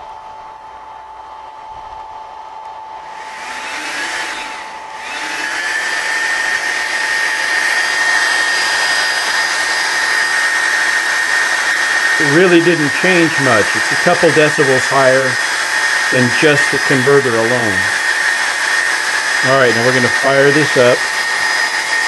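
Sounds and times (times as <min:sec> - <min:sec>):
cooling fans whirring: 0:00.0 - 0:22.0
power supply hum: 0:00.0 - 0:22.0.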